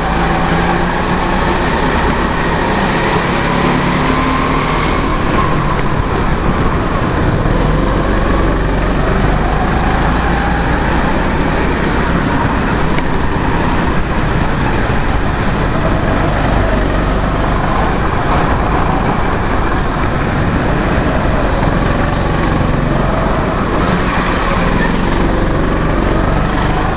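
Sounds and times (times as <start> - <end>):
go-kart engine revving: 0.0 - 26.9.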